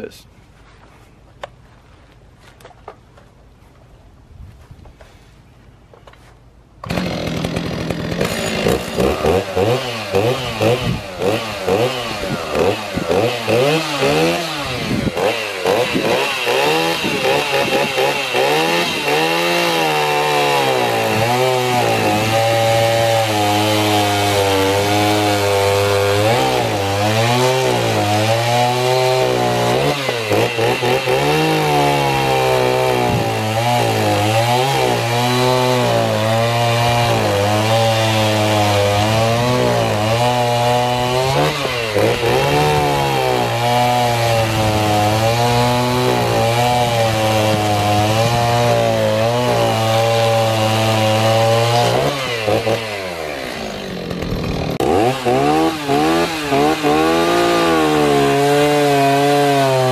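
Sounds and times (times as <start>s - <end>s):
chainsaw revving and cutting log: 6.8s - 59.9s.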